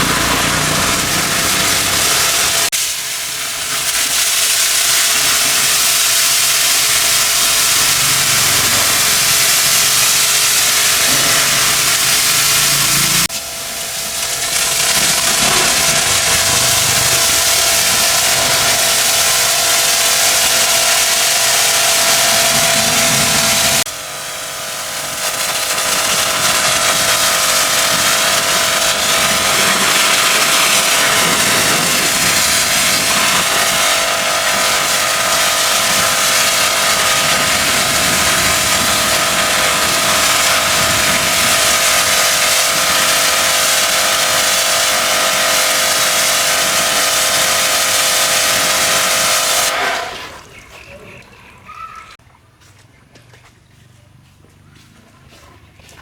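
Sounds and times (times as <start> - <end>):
cleaning machine motor running: 0.0 - 51.7.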